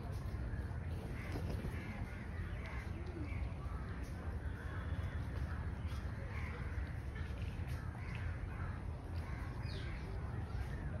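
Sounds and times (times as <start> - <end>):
birds calling: 0.4 - 11.0.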